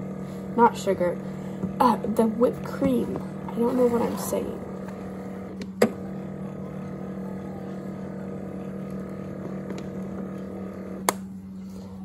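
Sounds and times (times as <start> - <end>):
milk frother humming: 0.0 - 12.0.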